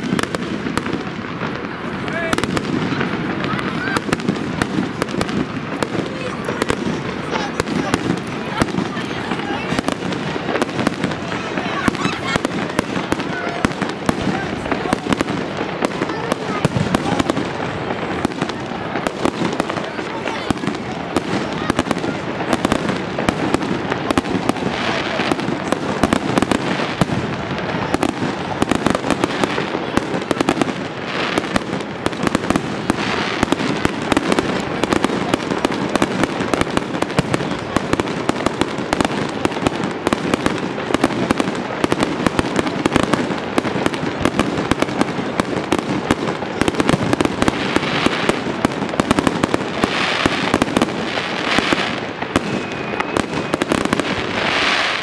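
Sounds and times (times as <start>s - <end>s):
fireworks bursting overhead: 0.0s - 55.0s.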